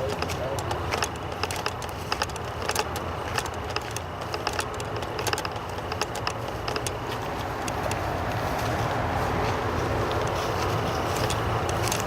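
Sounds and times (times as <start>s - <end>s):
footsteps crunching on gravel: 0.0s - 12.0s.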